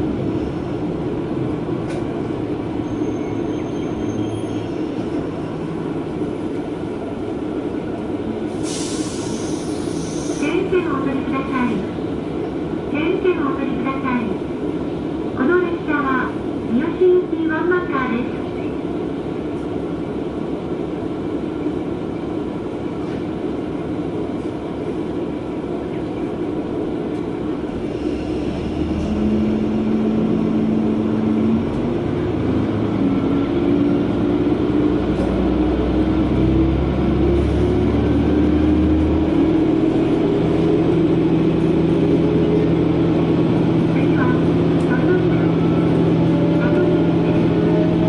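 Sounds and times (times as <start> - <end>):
train wheels on rails: 0.0 - 10.7, 18.9 - 48.0
diesel railcar engine rumbling: 0.0 - 48.0.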